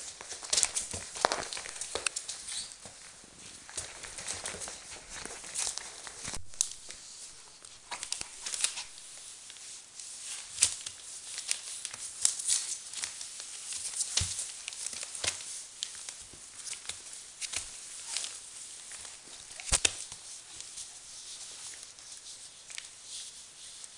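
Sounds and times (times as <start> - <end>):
paws and claws scuffling: 0.0 - 23.9
puppies scrambling on newspaper: 0.0 - 23.9.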